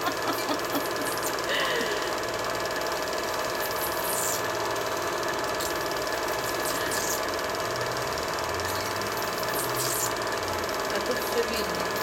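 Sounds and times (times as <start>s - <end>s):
film projector running: 0.0s - 12.0s.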